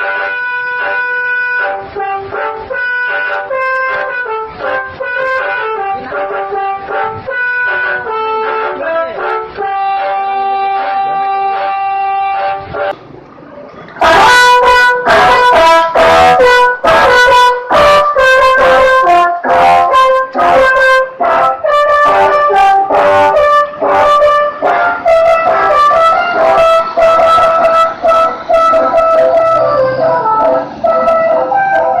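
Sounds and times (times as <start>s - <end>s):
multi-tone bus horn melody: 0.0s - 13.1s, 14.0s - 32.0s.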